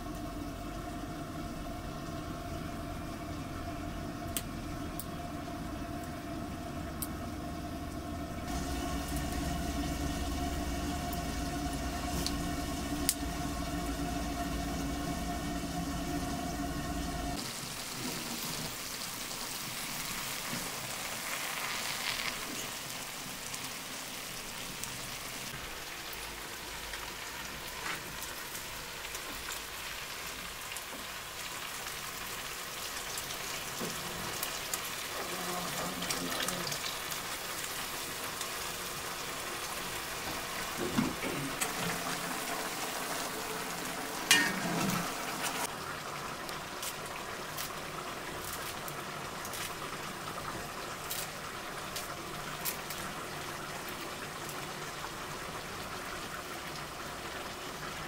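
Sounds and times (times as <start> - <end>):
wood fire crackling: 0.0 - 57.6
pot boiling with bubbling hiss: 0.0 - 58.0.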